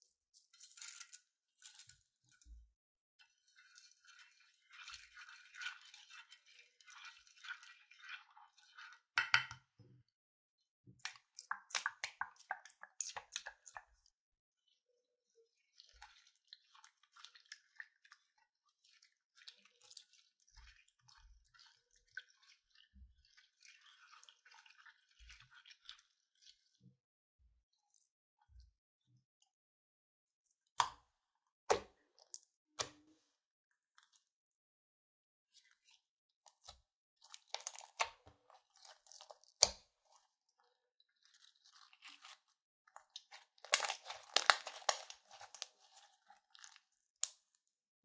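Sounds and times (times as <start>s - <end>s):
spoon stirring squishy slime: 0.0s - 10.0s, 10.9s - 26.9s, 30.5s - 34.3s, 35.4s - 47.8s.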